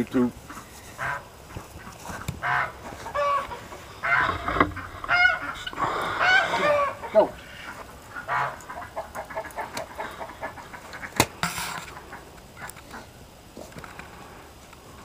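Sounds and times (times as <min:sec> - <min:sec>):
poultry honking and clucking: 0:00.5 - 0:13.1.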